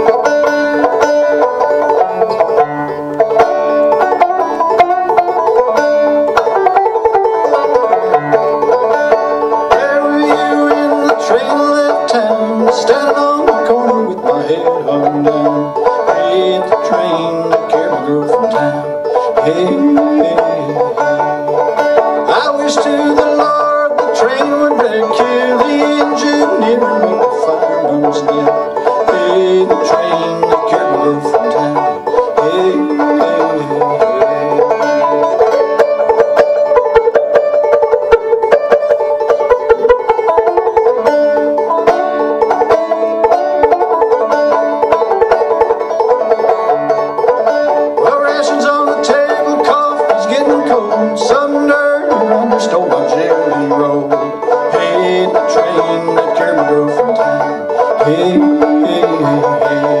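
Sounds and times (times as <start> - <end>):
banjo playing: 0.0 - 60.0.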